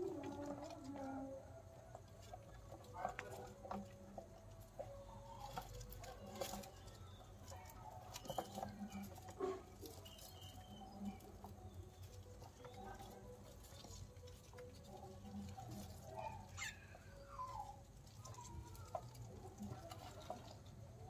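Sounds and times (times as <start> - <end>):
rats rustling on newspaper: 0.0 - 21.0.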